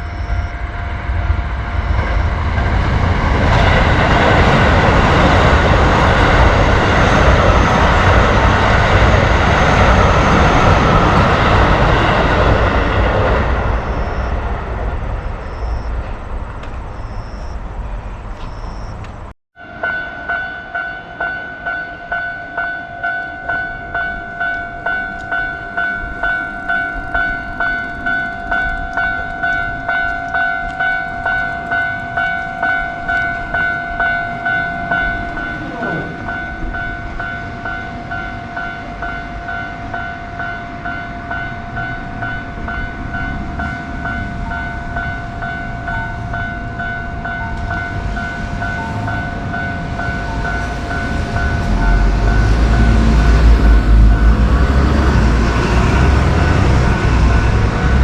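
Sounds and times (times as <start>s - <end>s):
railroad crossing bell ringing: 0.0s - 17.7s, 18.4s - 58.0s
train rumble: 0.0s - 58.0s.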